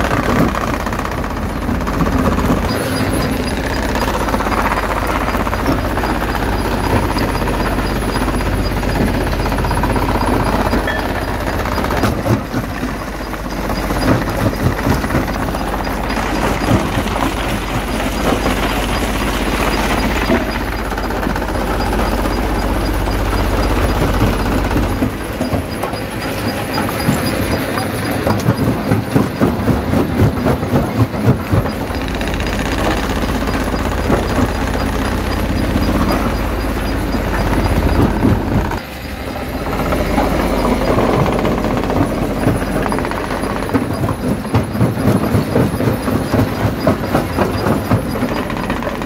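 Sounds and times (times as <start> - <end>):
jaw crusher grinding rock: 0.0 - 38.8, 39.5 - 49.0
rhythmic knocking: 0.0 - 49.0.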